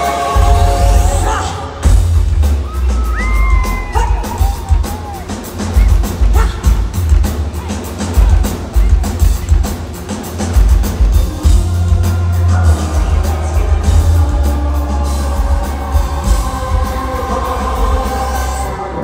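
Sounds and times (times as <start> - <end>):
loud pop concert music: 0.0 - 19.0.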